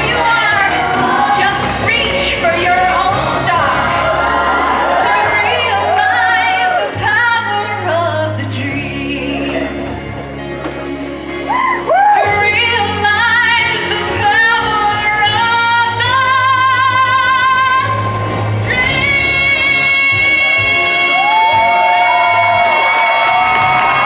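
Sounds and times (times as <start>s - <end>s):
woman singing with vibrato: 0.0s - 9.9s, 11.9s - 24.0s.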